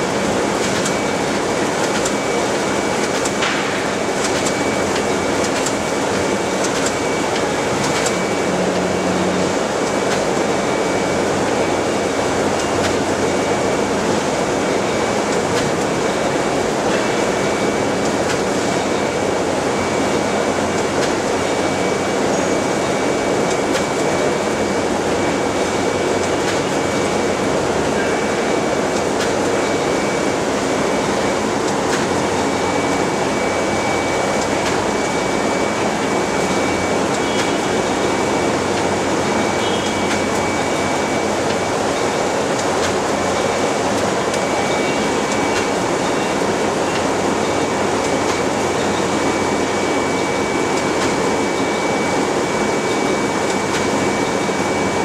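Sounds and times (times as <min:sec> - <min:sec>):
packaging machine mechanical din: 0:00.0 - 0:55.0.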